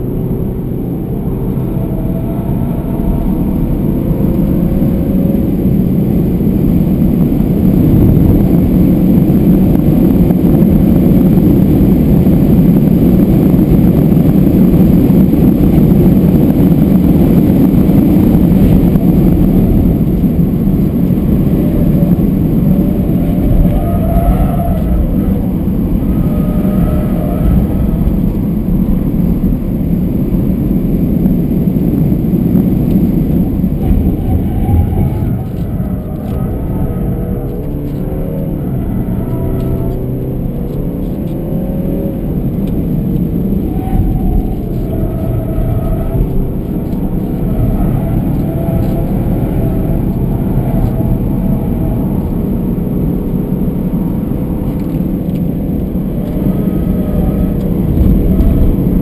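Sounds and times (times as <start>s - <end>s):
diesel engine rumble: 0.0s - 59.0s
road and wind noise: 0.0s - 59.0s.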